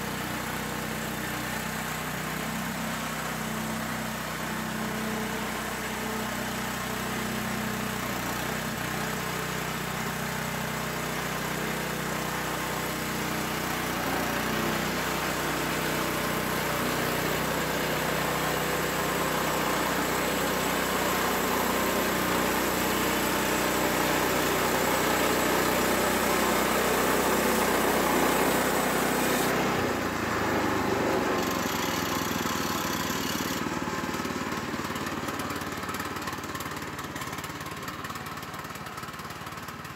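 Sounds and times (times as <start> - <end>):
band saw cutting log: 0.0 - 36.9
gas engine running: 0.0 - 39.9.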